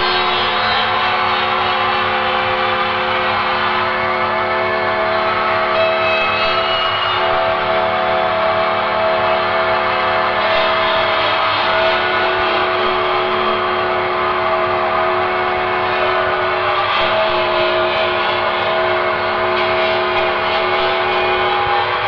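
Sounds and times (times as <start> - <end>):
dark ambient drone music: 0.0 - 22.0.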